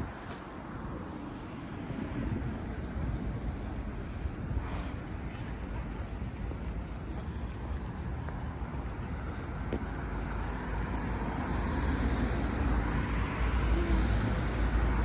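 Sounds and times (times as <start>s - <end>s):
road traffic rumble: 0.0s - 15.0s
vehicle approaching: 0.0s - 15.0s.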